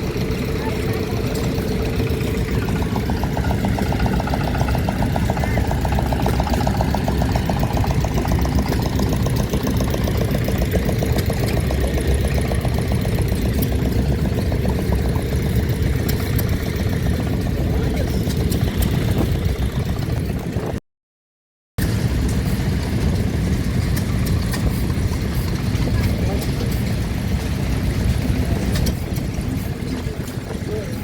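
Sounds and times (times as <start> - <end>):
combustion engine running: 0.0 - 20.8, 21.8 - 31.0.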